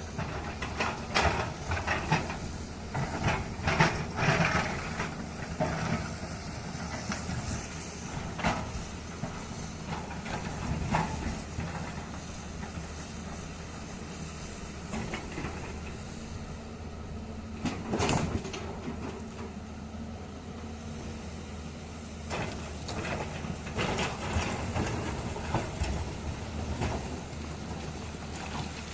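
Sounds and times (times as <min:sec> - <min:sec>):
heavy diesel engine running: 0:00.0 - 0:28.9.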